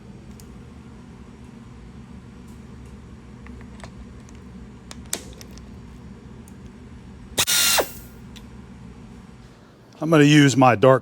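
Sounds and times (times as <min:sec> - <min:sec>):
low machine-shop hum: 0:00.0 - 0:11.0.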